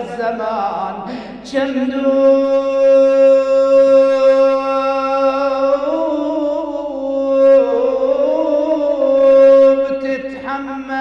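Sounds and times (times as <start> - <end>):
man chanting a mournful elegy: 0.0 - 11.0.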